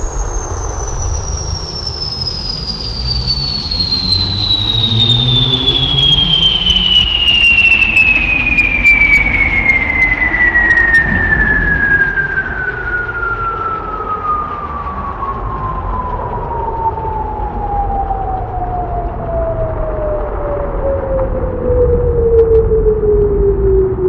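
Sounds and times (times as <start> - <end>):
descending synthesized whistling tone: 0.0 - 24.0
low rumbling noise: 0.0 - 24.0.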